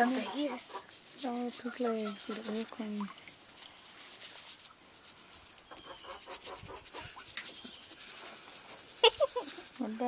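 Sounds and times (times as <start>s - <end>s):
toothbrush scrubbing: 0.0s - 10.0s.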